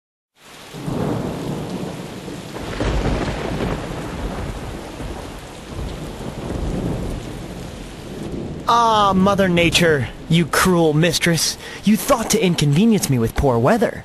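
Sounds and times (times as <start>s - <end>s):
heavy rain: 0.4s - 14.0s
rolling thunder: 0.6s - 12.5s.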